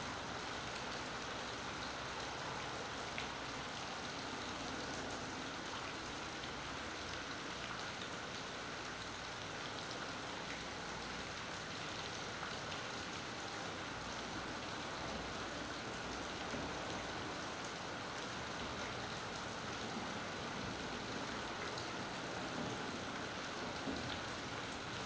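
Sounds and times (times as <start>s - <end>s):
steady rain hiss: 0.0s - 25.0s
ticks of raindrops: 0.1s - 25.0s.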